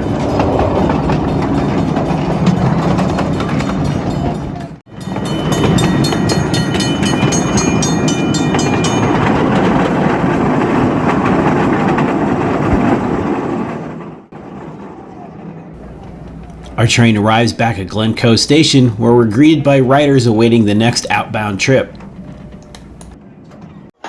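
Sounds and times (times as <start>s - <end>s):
train wheels clicking over rail joints: 0.0s - 14.3s, 15.8s - 24.0s.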